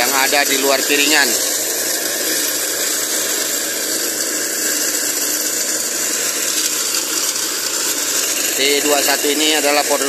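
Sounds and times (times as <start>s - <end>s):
blades scraping soil: 0.0s - 10.0s
brush cutter engine running: 0.0s - 10.0s.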